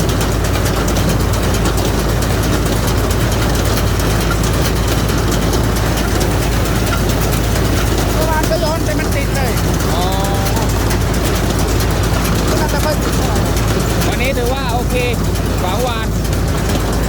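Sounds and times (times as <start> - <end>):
fast faint ticking: 0.0 - 17.0
heavy engine droning: 0.0 - 17.0.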